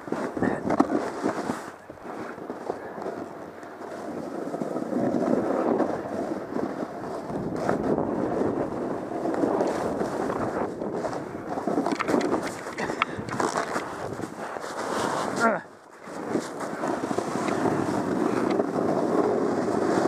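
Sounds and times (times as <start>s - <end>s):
snowboard scraping on snow: 0.0s - 20.0s.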